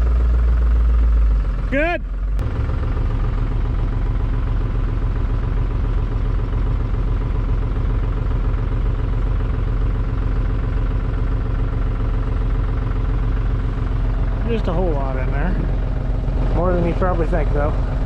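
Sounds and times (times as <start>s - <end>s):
tractor and auger droning: 0.0s - 18.0s.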